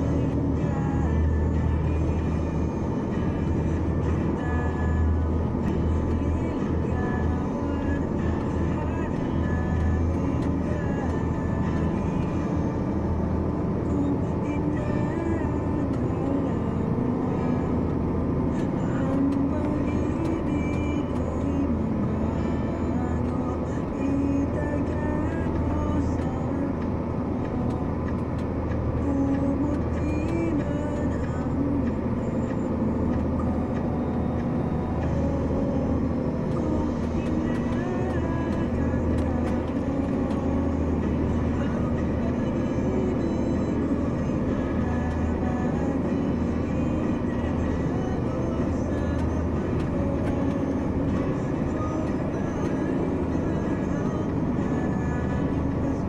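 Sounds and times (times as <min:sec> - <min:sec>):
vehicle rumble: 0:00.0 - 0:56.0.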